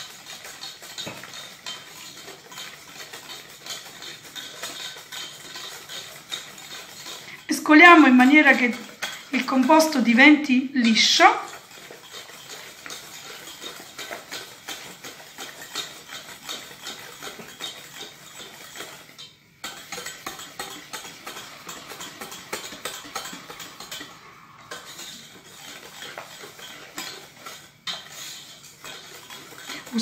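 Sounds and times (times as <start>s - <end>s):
whisk clicking against metal pot: 0.0s - 10.2s, 10.8s - 30.0s.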